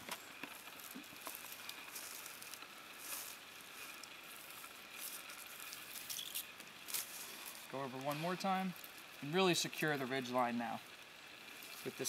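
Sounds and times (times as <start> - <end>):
cord rubbing over bark: 0.0 - 12.0.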